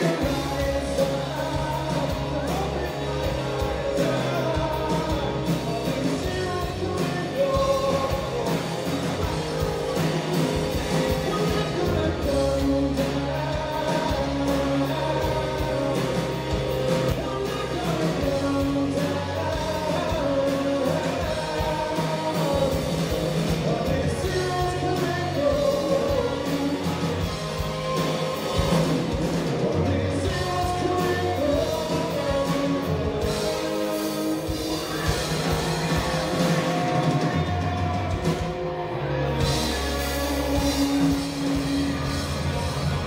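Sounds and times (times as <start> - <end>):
male vocalist singing: 0.0 - 38.4, 39.6 - 43.0
live rock band playing: 0.0 - 43.0.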